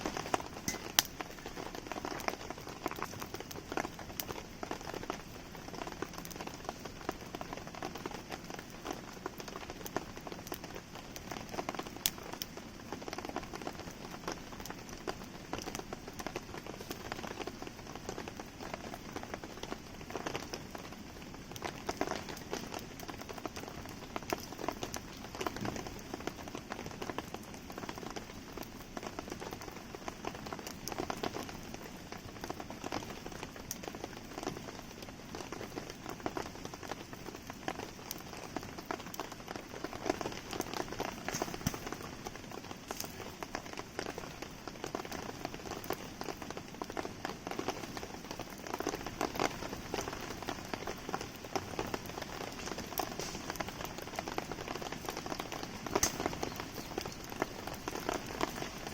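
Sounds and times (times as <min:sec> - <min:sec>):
campfire crackling and popping: 0:00.0 - 0:58.9
steady rain falling: 0:00.0 - 0:58.9.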